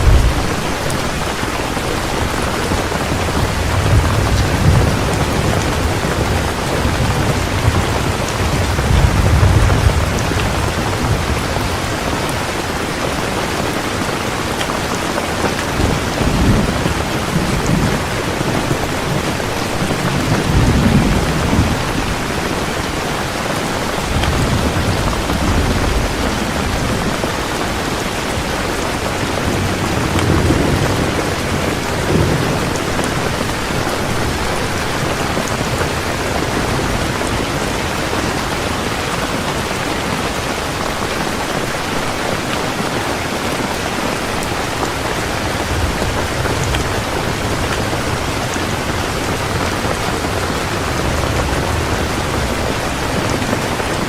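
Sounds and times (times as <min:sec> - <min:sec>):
low thunder rumbles: 0:00.0 - 0:12.9, 0:15.4 - 0:40.5, 0:44.4 - 0:54.0
heavy rain falling: 0:00.0 - 0:54.0.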